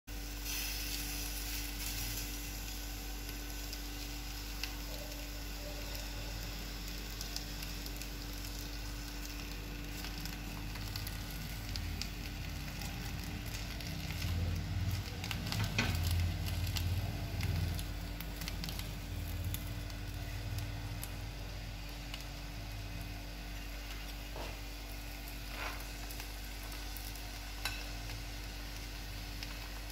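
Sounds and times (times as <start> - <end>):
leaves sizzling on hot plate: 0.1 - 29.9.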